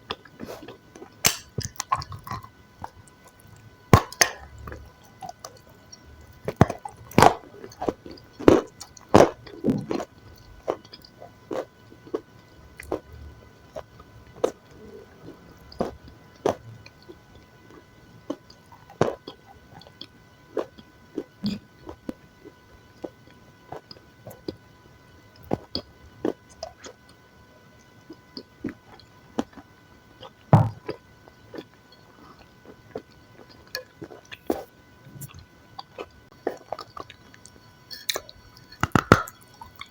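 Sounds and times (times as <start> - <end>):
chewing and biting food: 0.1 - 13.1, 13.7 - 24.6, 28.1 - 39.9.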